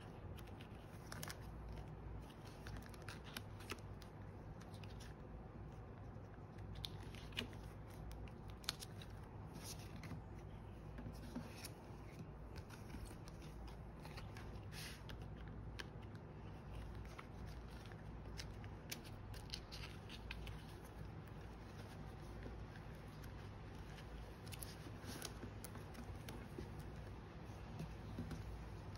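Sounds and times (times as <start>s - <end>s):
low background hum: 0.0s - 28.9s
card and plastic rustling: 0.1s - 5.2s, 6.4s - 28.9s.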